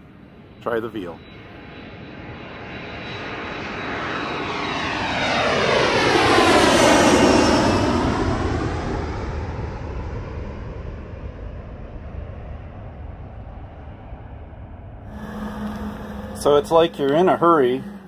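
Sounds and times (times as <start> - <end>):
airplane passing overhead: 0.0 - 18.0.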